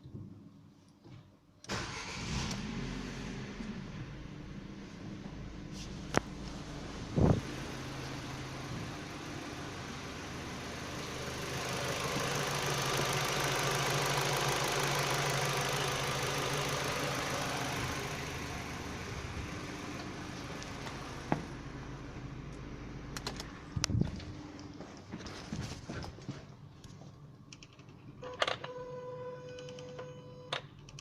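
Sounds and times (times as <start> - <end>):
engine bay low hum: 1.7 - 27.4.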